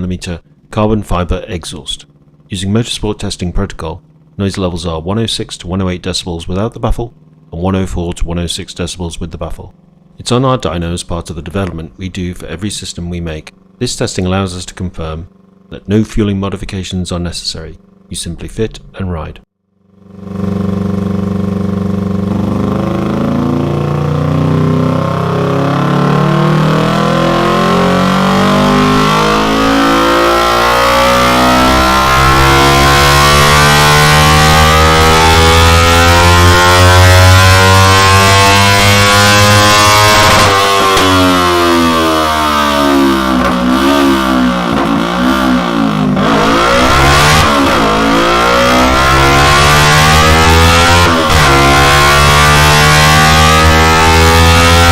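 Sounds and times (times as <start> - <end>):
motorcycle engine revving under load: 0.0 - 18.2, 19.7 - 54.9.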